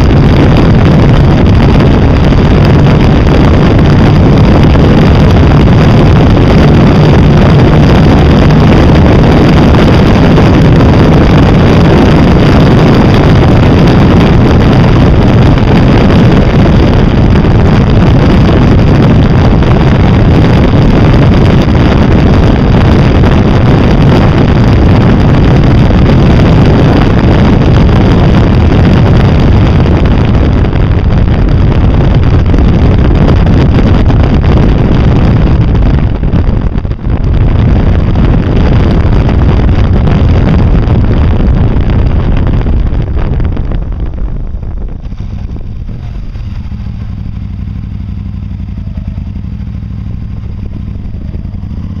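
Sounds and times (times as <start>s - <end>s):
vehicle engine running: 0.0s - 52.0s
wind buffeting microphone: 0.0s - 52.0s.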